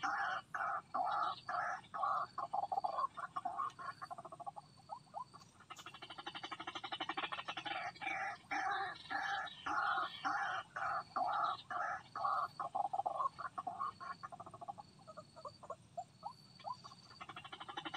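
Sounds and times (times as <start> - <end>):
bird croaking calls: 0.0 - 17.9
fast rattling bird call: 0.0 - 17.9.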